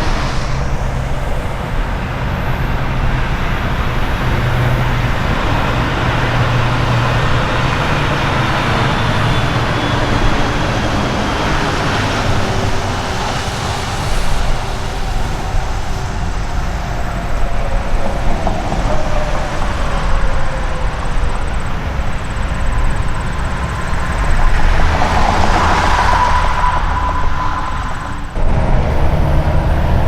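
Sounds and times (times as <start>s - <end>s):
heavy vehicles rumbling: 0.0s - 30.0s.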